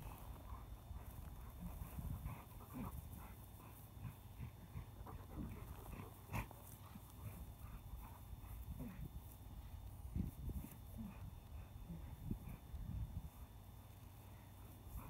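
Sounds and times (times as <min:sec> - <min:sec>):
puppy panting: 0:00.0 - 0:15.0.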